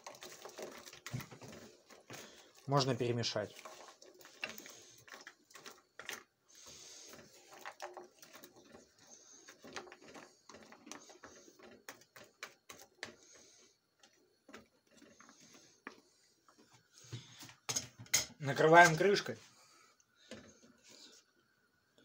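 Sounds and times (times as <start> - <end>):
spatula scraping dumplings in pan: 0.0 - 19.1.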